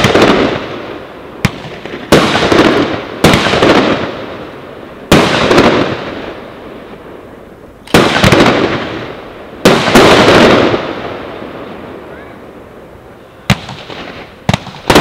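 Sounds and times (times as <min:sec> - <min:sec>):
fireworks bangs with rumbling echo: 0:00.0 - 0:15.0.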